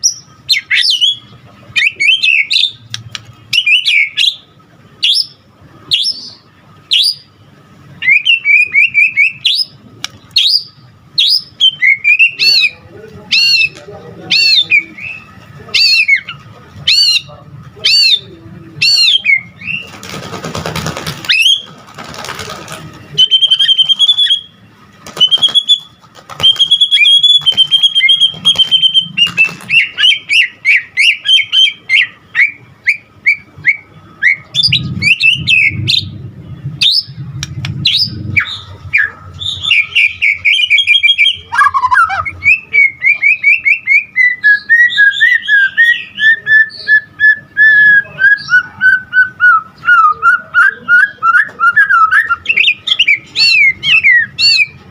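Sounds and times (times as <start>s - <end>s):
songbird whistles and trills: 0.0s - 7.3s, 8.0s - 17.3s, 21.2s - 21.7s, 23.1s - 36.2s, 36.8s - 54.8s.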